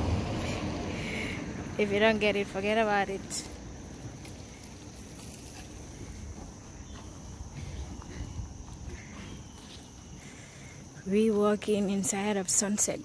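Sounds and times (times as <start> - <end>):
low uneven rumble: 0.0 - 10.6
insects droning: 0.0 - 13.0.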